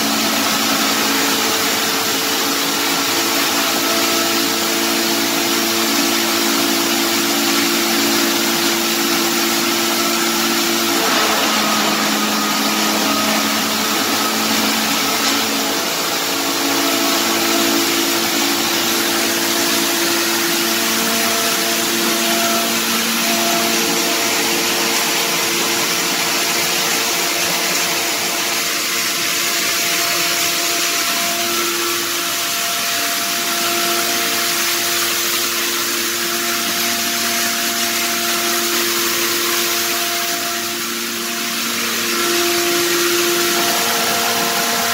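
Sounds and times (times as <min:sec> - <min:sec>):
hammer mill grinding: 0:00.0 - 0:44.9.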